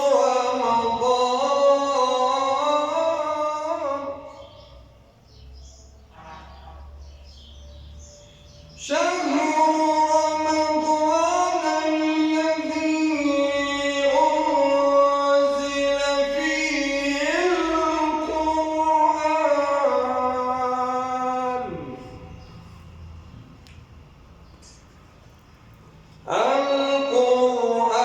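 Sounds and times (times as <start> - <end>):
person chanting melodic recitation: 0.0 - 23.4, 26.2 - 28.0.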